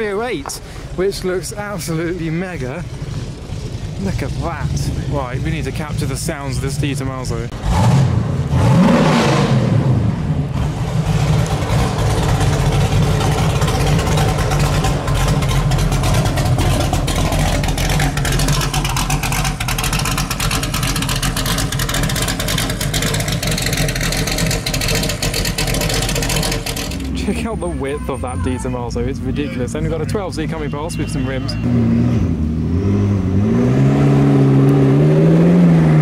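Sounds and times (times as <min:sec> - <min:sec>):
car engine running at low revs: 0:00.0 - 0:36.0
car engine revving: 0:00.8 - 0:28.1, 0:31.4 - 0:36.0.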